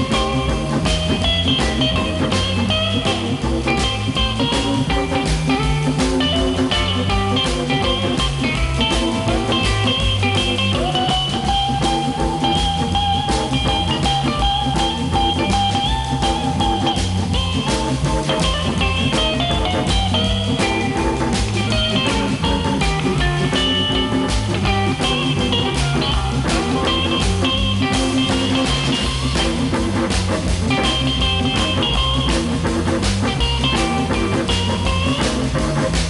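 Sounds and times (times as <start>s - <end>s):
bass guitar: 0.0s - 36.0s
drum kit playing a steady beat: 0.0s - 36.0s
electric guitar: 0.0s - 36.0s.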